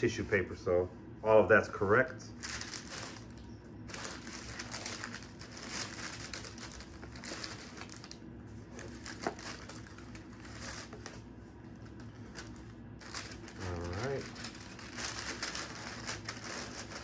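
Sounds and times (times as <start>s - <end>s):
tissue paper rustling: 2.4s - 17.0s.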